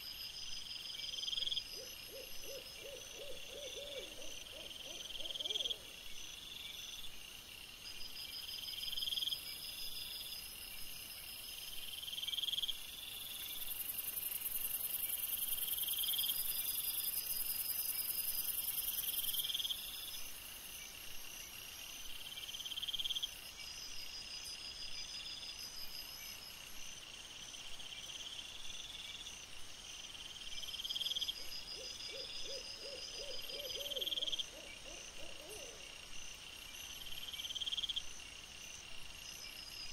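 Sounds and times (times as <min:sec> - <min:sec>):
continuous high insect trill: 0:00.0 - 0:39.9
crickets chirping: 0:00.0 - 0:39.9.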